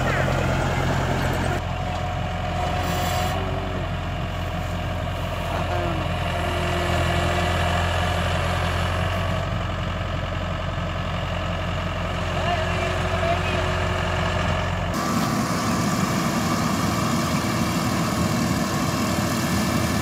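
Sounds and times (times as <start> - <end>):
combine harvester diesel engine drone: 0.0 - 20.0.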